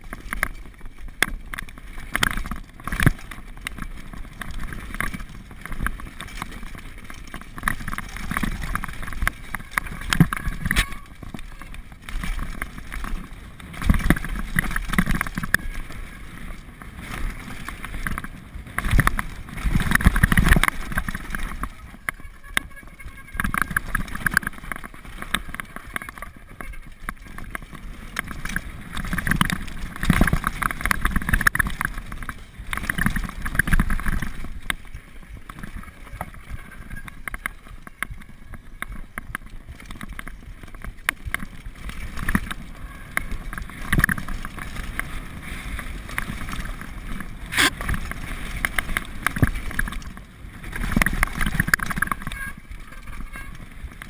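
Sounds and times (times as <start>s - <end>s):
bike rattling and clattering: 0.0s - 54.0s
tyres crunching over stones: 0.0s - 54.0s.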